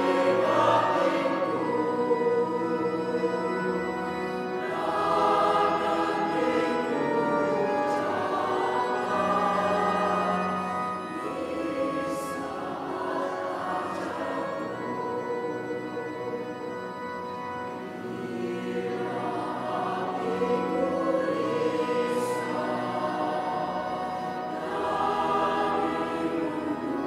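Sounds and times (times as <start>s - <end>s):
choir singing a hymn: 0.0s - 27.0s.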